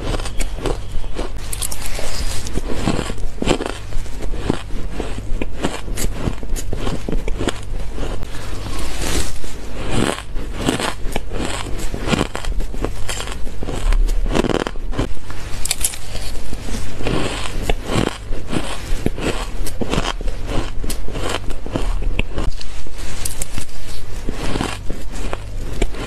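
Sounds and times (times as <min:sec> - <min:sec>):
ice crunching as chewed: 0:00.0 - 0:26.0.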